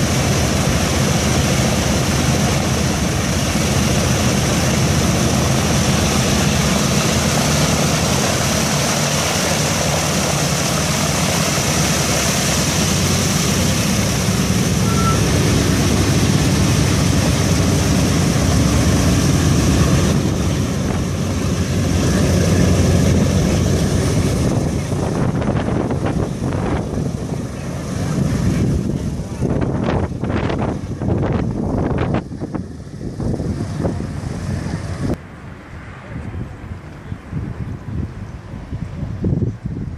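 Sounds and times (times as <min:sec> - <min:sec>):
aircraft radial engines running: 0:00.0 - 0:39.9.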